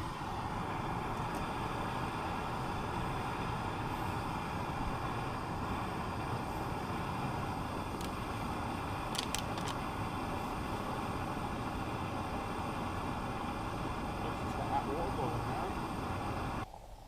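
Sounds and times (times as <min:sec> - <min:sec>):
gas stove hissing: 0:00.0 - 0:16.8.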